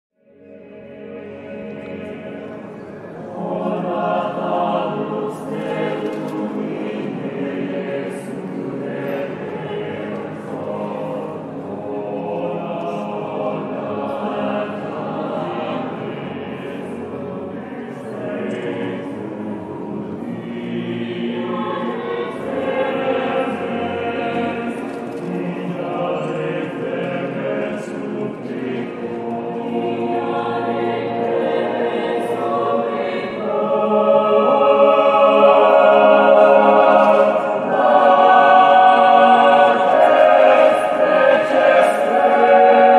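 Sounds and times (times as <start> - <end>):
choir singing a cappella: 0.2 - 42.9.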